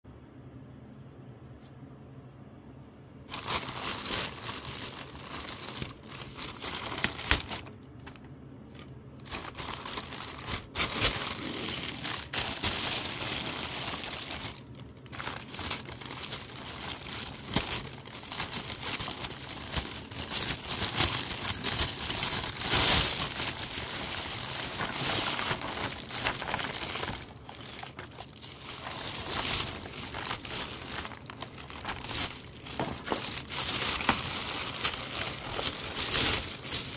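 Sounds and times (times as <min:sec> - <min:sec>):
plastic bag crinkling: 0:03.3 - 0:36.9.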